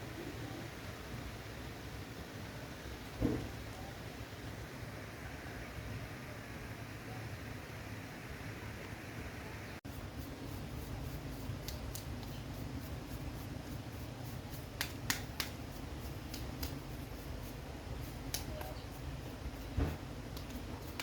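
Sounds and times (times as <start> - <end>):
steady low hum: 3.8 - 21.0.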